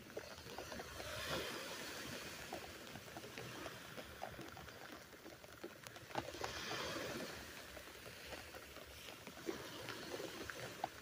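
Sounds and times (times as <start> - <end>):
rain pattering on umbrella fabric: 0.0 - 11.0.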